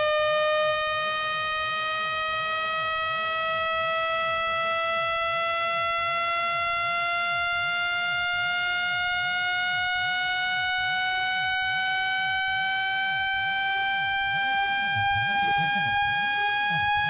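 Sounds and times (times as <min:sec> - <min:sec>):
buzzy electronic tone rising: 0:00.0 - 0:17.0.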